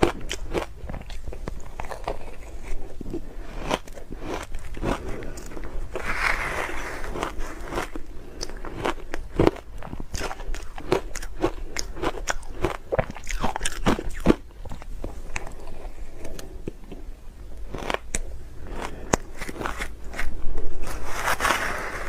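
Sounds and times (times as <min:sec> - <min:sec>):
ice crunching while chewed: 0:00.0 - 0:21.8.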